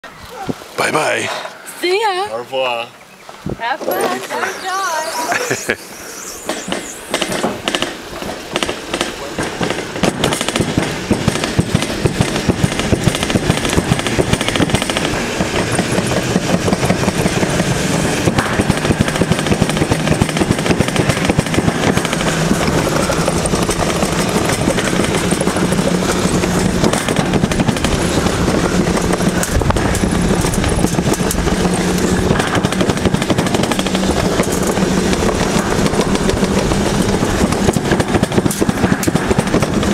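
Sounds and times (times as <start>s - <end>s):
sled rattling down trough: 3.6s - 39.9s.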